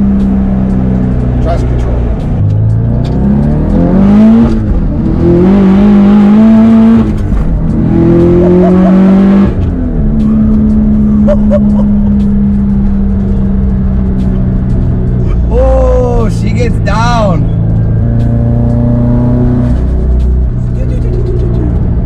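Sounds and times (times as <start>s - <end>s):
car engine revving from cabin: 0.0s - 14.9s, 16.3s - 21.9s.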